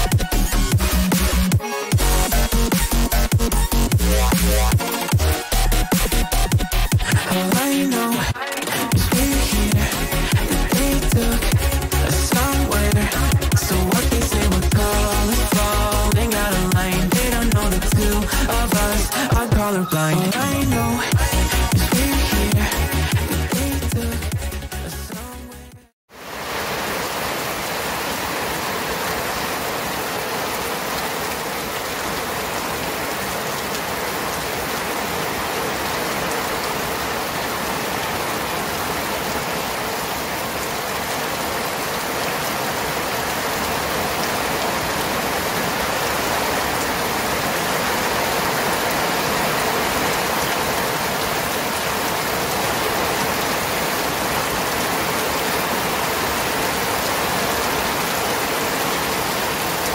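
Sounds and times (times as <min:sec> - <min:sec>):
steady rain: 0:00.0 - 0:25.0, 0:26.1 - 0:59.9.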